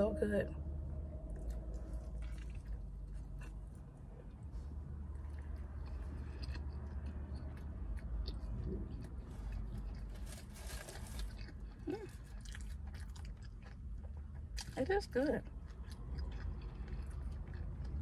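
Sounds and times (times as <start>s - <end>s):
steady low hum: 0.0s - 18.0s
person chewing crunchy food: 1.3s - 18.0s.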